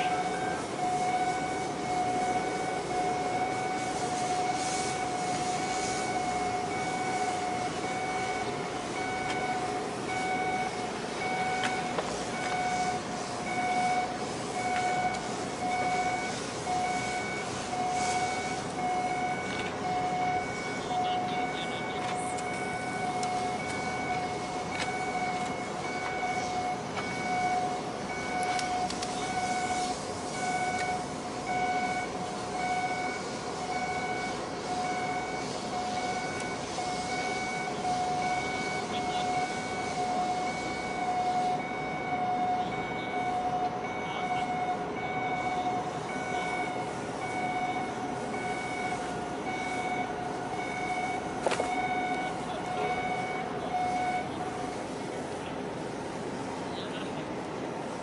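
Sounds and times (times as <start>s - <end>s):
electronic warning beeps: 0.0s - 56.0s
harbour machinery noise: 0.0s - 58.0s.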